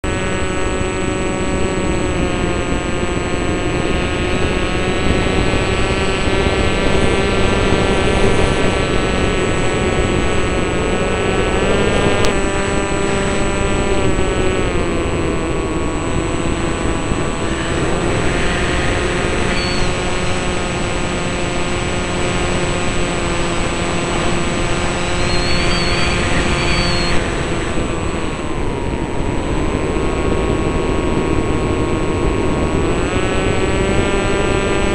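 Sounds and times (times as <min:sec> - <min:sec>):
propeller aircraft engine drone: 0:00.0 - 0:34.9
wind rush on microphone: 0:00.0 - 0:34.9.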